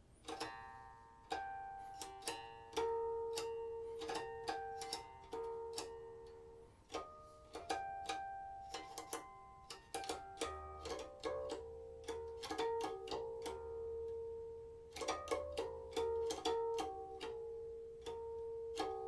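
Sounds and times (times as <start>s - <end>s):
guqin plucked notes: 0.2s - 19.0s.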